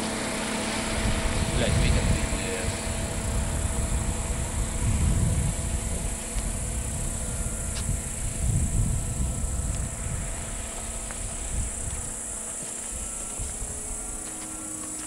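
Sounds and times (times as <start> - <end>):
crickets chirring: 0.0 - 15.0
model airplane motor whine: 0.0 - 15.0
wind buffeting microphone: 0.0 - 15.0.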